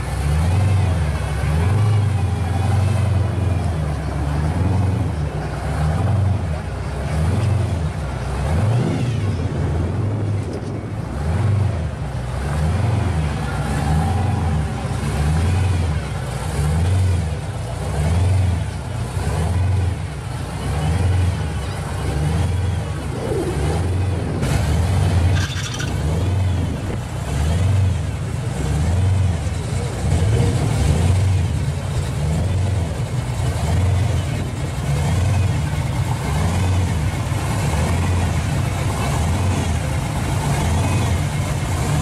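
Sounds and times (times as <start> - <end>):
car engine idling lopey: 0.0 - 42.0.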